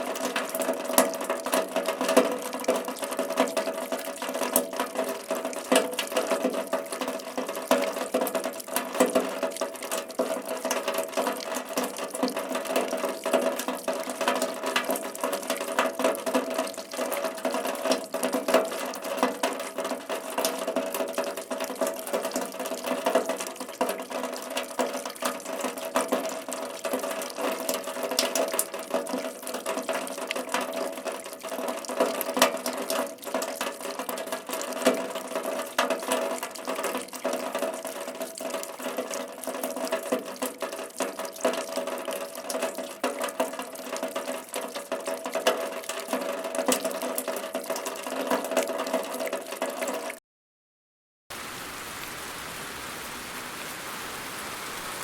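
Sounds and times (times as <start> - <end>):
rain on a hard surface: 0.0 - 50.2, 51.3 - 55.0.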